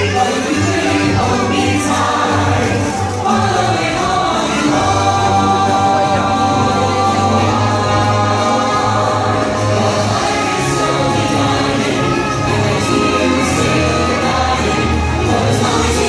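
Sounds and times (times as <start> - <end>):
choir singing with instruments: 0.0 - 16.0.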